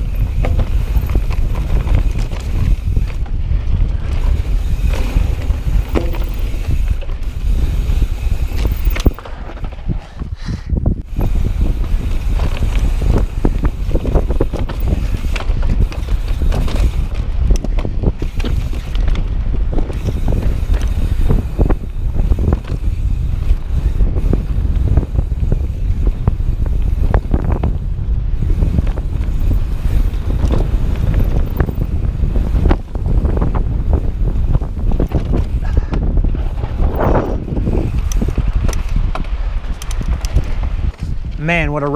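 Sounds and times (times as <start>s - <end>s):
bike frame rattling and knocking: 0.0s - 10.3s, 11.2s - 41.5s
wind buffeting microphone: 0.0s - 41.9s.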